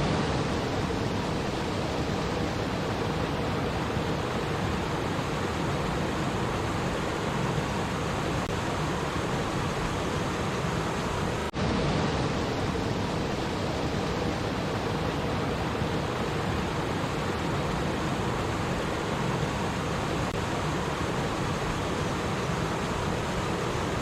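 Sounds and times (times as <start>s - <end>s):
stream water babbling: 0.0s - 24.0s.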